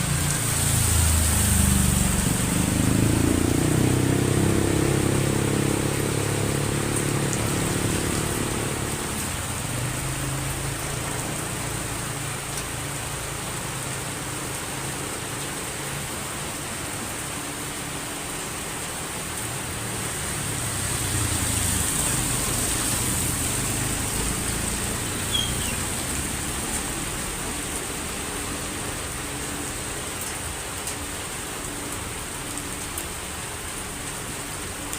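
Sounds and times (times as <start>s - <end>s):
heavy rain falling: 0.0s - 34.9s
vehicle passing through rain: 0.0s - 34.9s.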